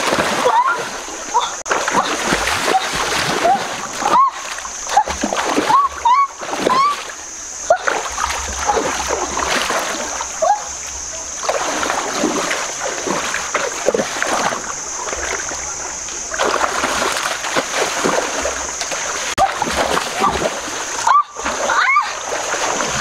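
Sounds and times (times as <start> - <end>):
steady high-pitched hiss: 0.0 - 19.4
water splashing in stream: 0.0 - 23.0.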